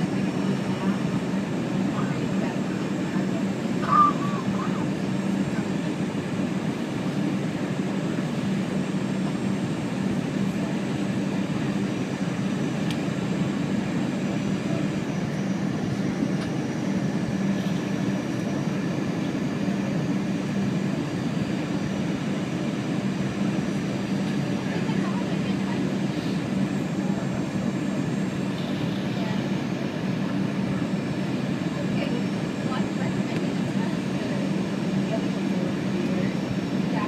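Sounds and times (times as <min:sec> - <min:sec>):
jet airliner cabin noise: 0:00.0 - 0:37.0.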